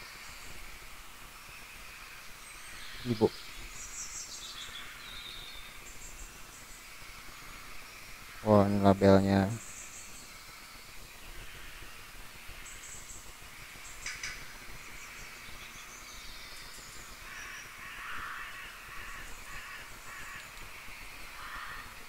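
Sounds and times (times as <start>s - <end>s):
harsh caw-like bird calls: 1.6s - 15.9s, 17.0s - 22.0s.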